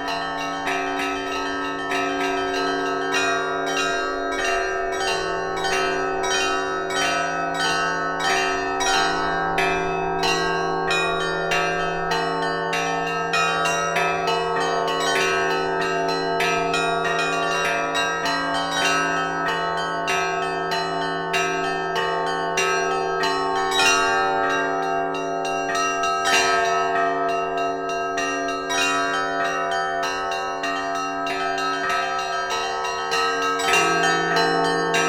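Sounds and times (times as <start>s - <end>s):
bells ringing: 0.0s - 35.0s.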